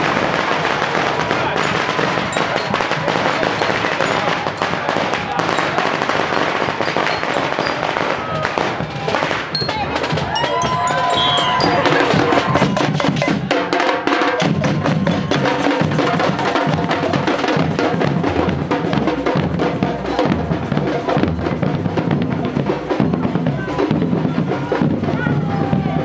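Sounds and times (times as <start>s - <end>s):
marching band drums: 0.0s - 26.0s.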